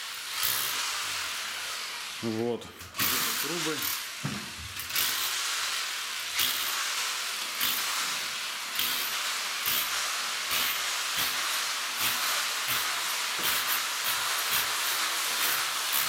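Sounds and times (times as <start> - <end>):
electric drill hissing: 0.0 - 16.0.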